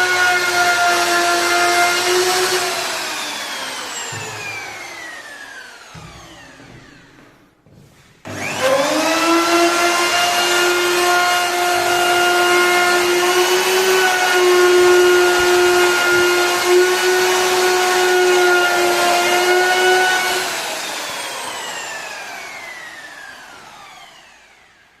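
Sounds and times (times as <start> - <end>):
power tool whine: 0.0 - 7.2, 8.2 - 25.0.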